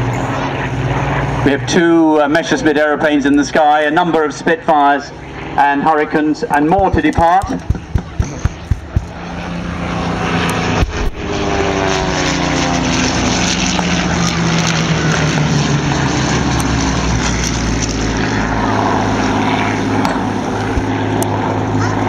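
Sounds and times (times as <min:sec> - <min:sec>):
propeller plane engine flying past: 0:00.0 - 0:22.0.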